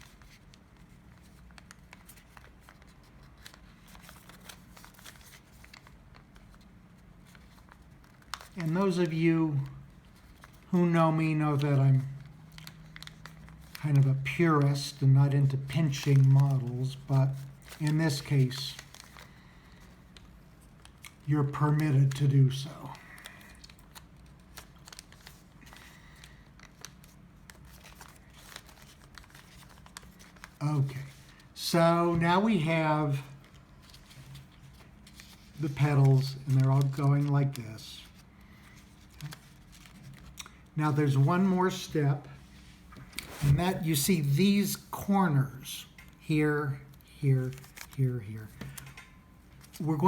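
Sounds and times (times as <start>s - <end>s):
paper crinkling and creasing: 0.0s - 50.0s.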